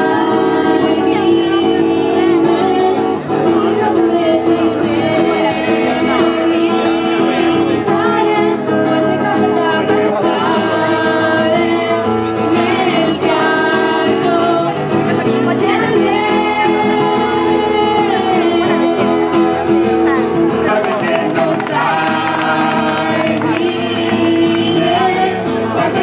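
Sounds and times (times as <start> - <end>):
woman singing into a microphone: 0.0 - 26.0.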